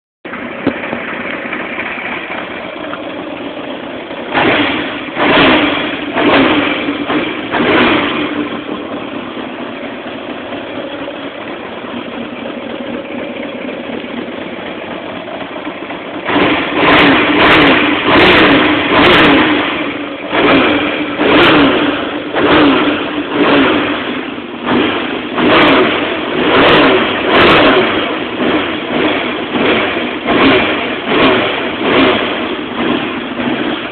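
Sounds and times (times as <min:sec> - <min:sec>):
motorcycle engine idling and revving: 0:00.2 - 0:33.9.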